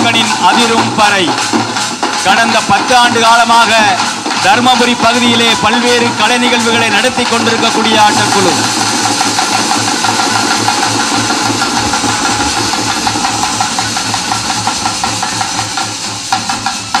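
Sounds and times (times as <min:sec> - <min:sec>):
frame drums beaten with sticks: 0:00.0 - 0:17.0.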